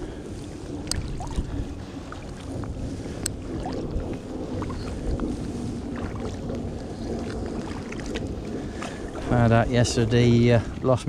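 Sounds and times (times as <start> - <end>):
low rumble: 0.0 - 11.0
paddle strokes in water: 0.0 - 11.0.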